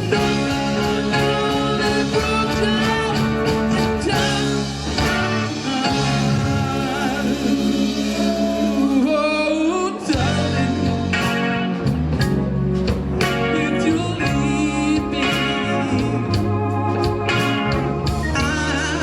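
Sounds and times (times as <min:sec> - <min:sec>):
oldies song with singing and guitar: 0:00.0 - 0:19.0.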